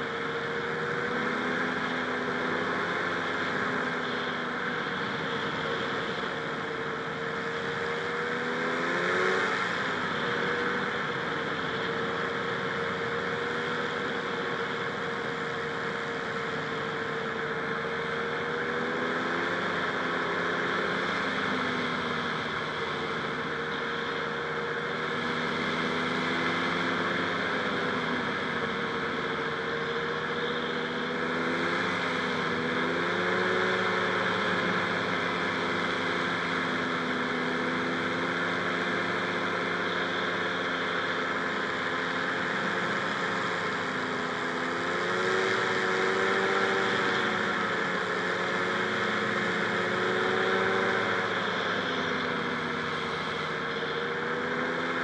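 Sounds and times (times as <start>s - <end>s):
two-stroke engine and propeller: 0.0s - 55.0s.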